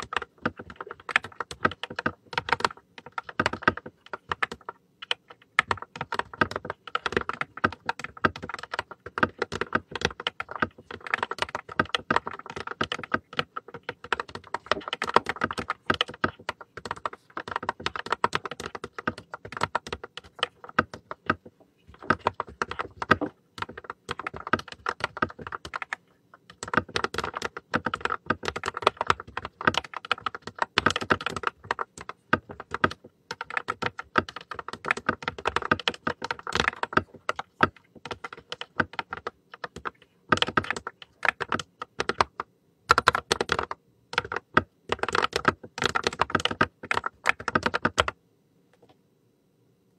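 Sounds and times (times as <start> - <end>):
typing on mechanical keyboard: 0.0 - 48.2.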